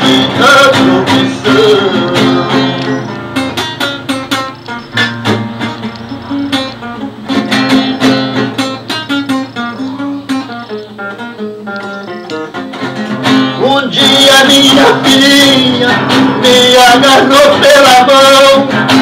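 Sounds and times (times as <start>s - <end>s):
classical guitar playing: 0.0s - 19.0s.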